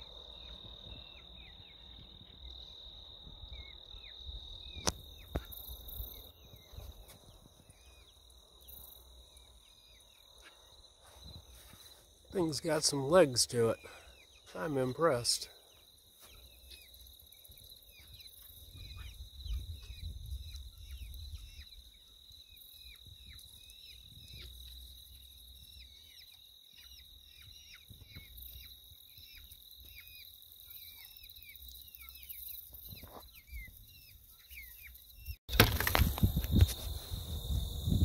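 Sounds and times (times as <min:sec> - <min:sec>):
birds chirping: 0:00.0 - 0:36.1
insect trill: 0:00.0 - 0:38.0.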